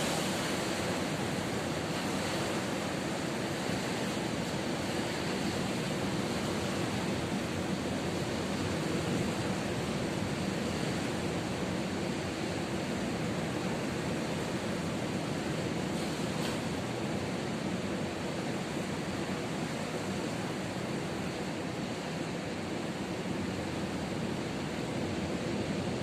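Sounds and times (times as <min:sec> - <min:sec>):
ocean surf: 0:00.0 - 0:26.0.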